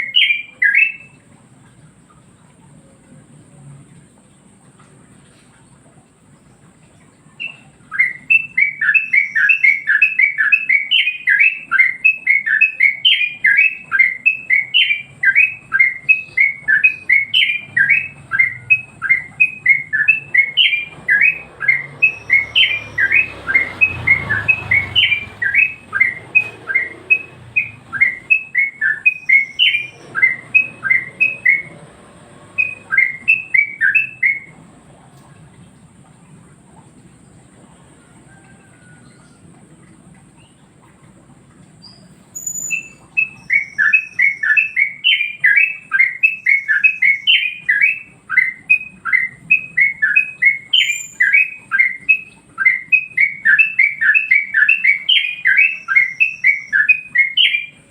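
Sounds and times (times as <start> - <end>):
bird chirping song: 0.0 - 3.3, 4.1 - 57.9.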